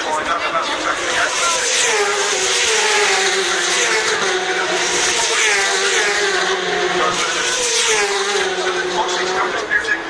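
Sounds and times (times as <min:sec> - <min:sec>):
racing motorcycles passing by: 0:00.2 - 0:10.0.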